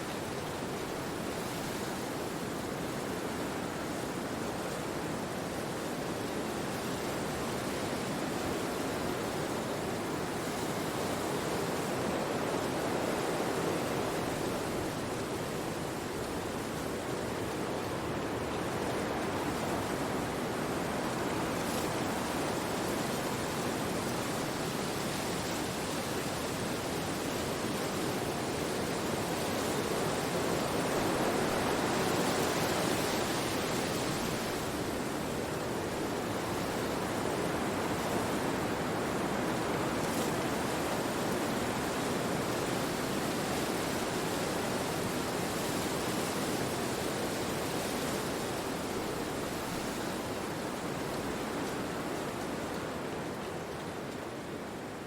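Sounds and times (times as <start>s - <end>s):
wind rushing through tree leaves: 0.0s - 55.0s.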